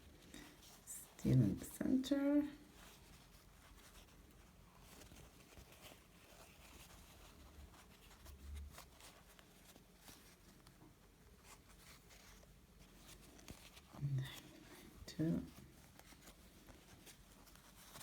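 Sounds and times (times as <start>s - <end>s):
fabric and ribbon rustling: 0.0s - 18.0s.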